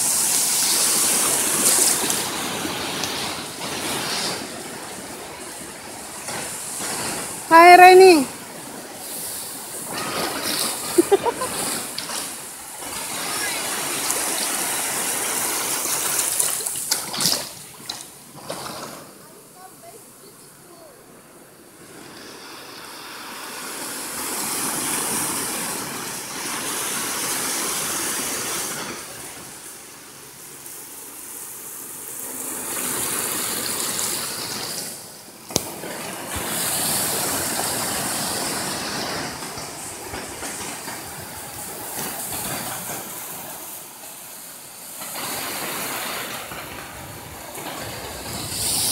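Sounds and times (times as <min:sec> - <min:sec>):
small waves washing on rocks: 0:00.0 - 0:20.1, 0:21.9 - 0:48.9.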